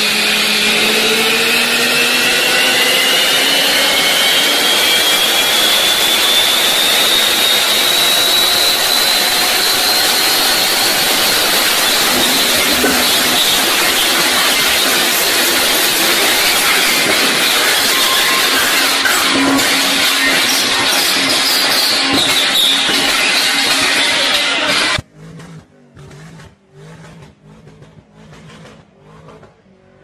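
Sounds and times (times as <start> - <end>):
car engine at full throttle: 0.0 - 30.0
tyres spinning on rollers: 0.0 - 30.0.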